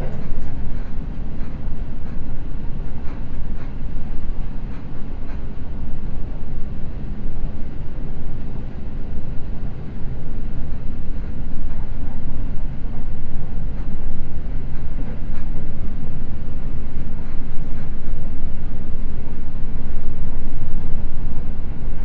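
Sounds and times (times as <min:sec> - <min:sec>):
train rumble from inside car: 0:00.0 - 0:22.0.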